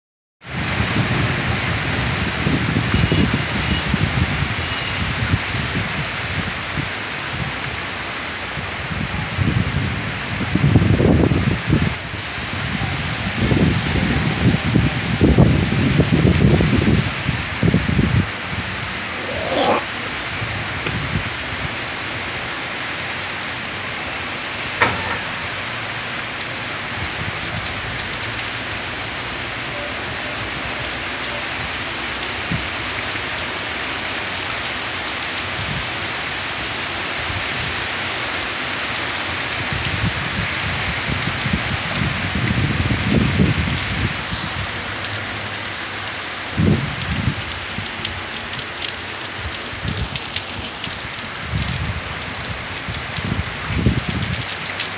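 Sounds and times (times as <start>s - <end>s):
heavy rain falling: 0.4s - 54.9s.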